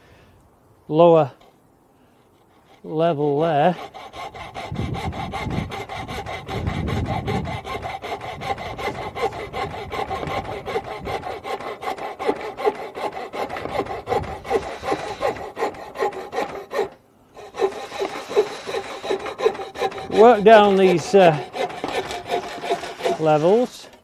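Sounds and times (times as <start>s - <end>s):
hand saw cutting wood: 2.5s - 24.0s.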